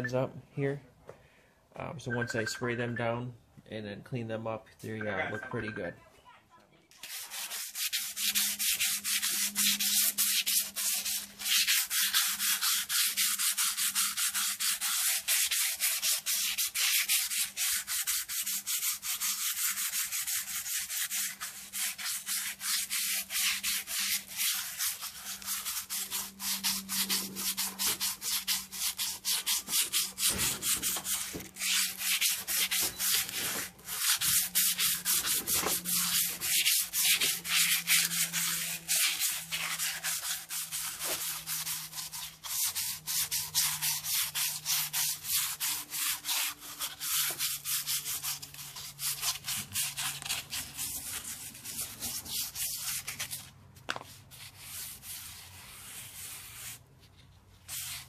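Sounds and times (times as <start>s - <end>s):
sandpaper rubbing on metal: 6.9s - 53.5s, 54.3s - 56.8s, 57.6s - 58.0s.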